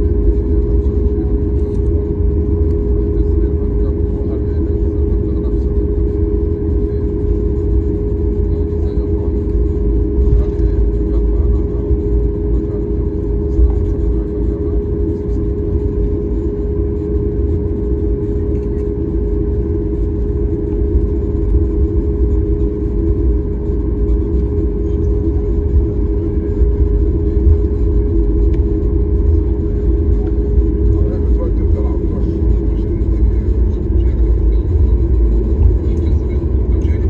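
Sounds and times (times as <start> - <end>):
jet engines droning: 0.0 - 37.0
low rumble of airliner rolling: 0.0 - 37.0.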